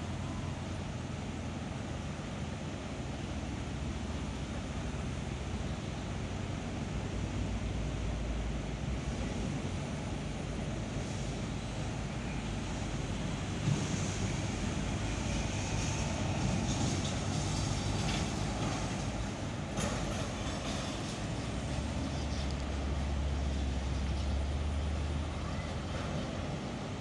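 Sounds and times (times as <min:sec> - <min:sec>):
distant locomotive engine rumble: 0:00.0 - 0:27.0
outdoor noise: 0:00.0 - 0:27.0.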